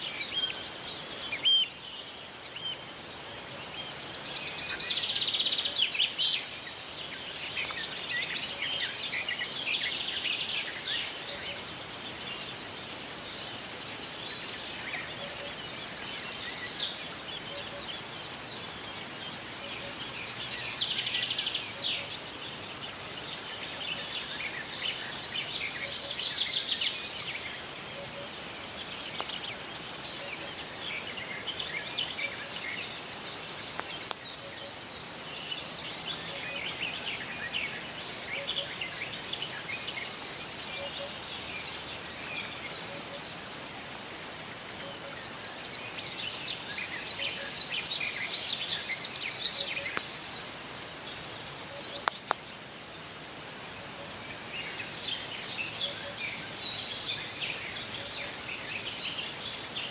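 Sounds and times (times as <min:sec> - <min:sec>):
songbirds trilling: 0:00.0 - 0:59.9
steady background hiss: 0:00.0 - 0:59.9.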